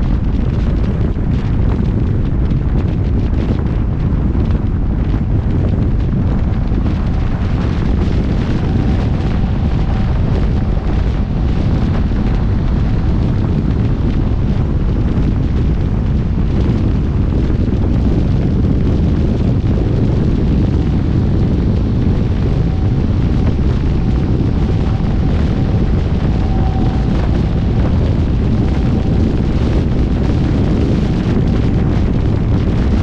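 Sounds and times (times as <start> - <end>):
wind buffeting microphone: 0.0 - 33.0
vehicle traffic noise: 3.6 - 33.0.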